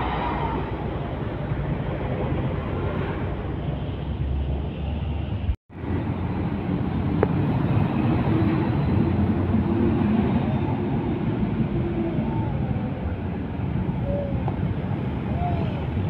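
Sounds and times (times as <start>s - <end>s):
heavy trucks passing: 0.0s - 16.0s
motorbikes: 0.0s - 16.0s.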